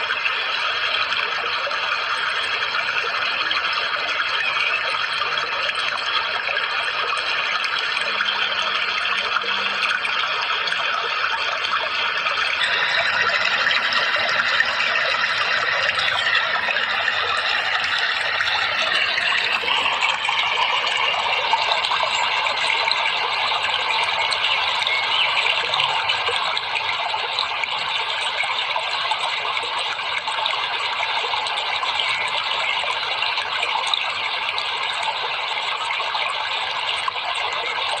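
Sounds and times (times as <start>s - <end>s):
running water rushing: 0.0s - 38.0s.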